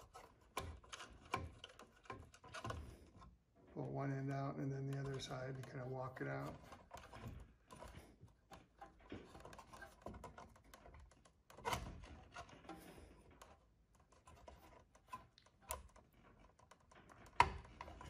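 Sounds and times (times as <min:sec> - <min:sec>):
plastic plug clicking and scraping: 0:00.0 - 0:03.4, 0:04.6 - 0:18.0.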